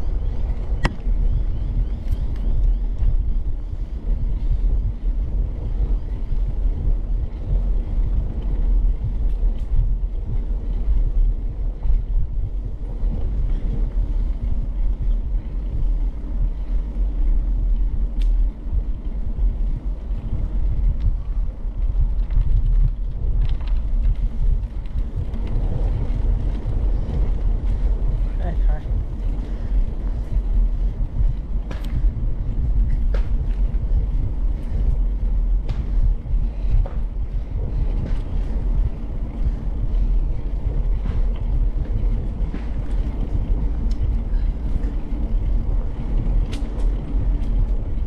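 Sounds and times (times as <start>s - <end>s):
bicycle tyres rolling on trail: 0.0s - 48.0s
wind buffeting microphone: 0.0s - 48.0s.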